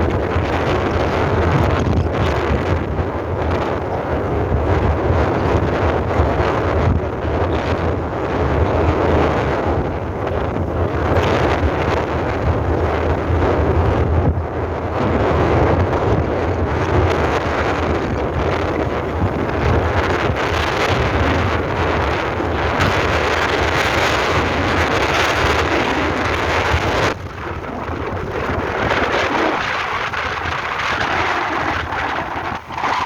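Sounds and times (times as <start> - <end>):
strong wind buffeting microphone: 0.0 - 33.0.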